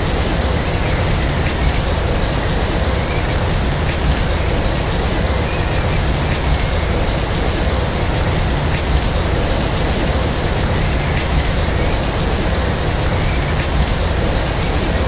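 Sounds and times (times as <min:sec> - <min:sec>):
heavy rain hiss: 0:00.0 - 0:15.0
raindrops ticking: 0:00.0 - 0:15.0.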